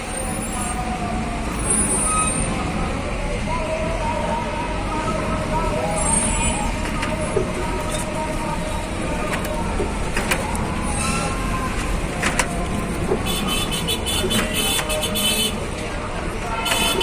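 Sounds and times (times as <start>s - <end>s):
vehicle ride rumble: 0.0s - 17.0s.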